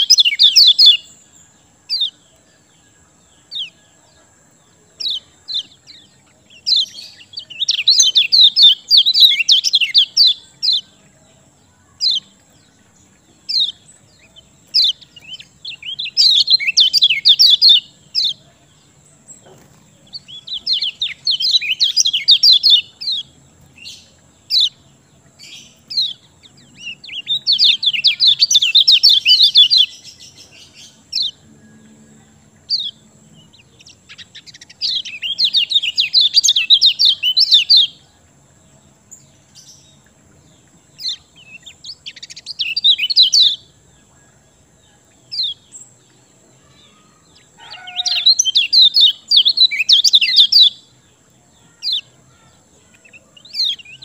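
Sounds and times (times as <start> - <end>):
sharp bird chirps: 0.0 - 38.1, 39.0 - 44.4, 45.1 - 51.0
songbird chirping song: 0.0 - 54.0.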